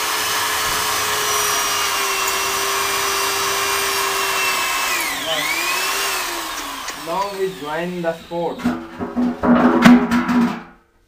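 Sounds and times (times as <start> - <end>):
electric drill boring into wall: 0.0 - 9.0.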